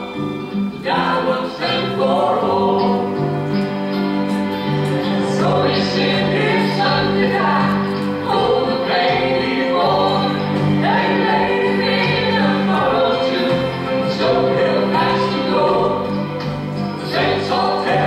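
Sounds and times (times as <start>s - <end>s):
voices singing: 0.0s - 18.0s.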